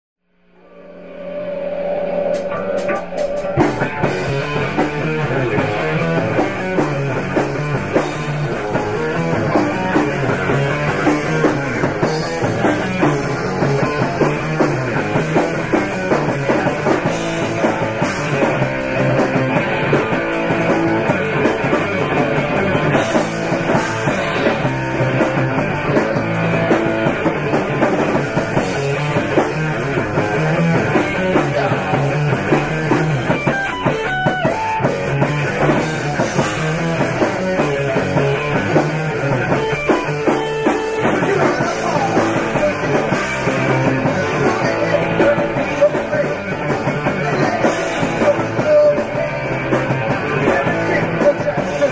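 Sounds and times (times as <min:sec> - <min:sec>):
rock band playing: 0:00.6 - 0:51.9.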